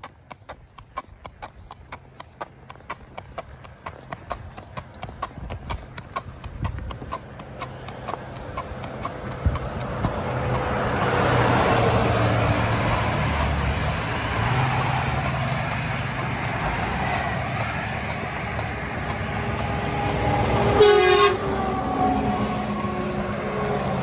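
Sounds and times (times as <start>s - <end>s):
horse hooves on asphalt: 0.0s - 24.0s
truck engine and tyre noise: 0.0s - 24.0s.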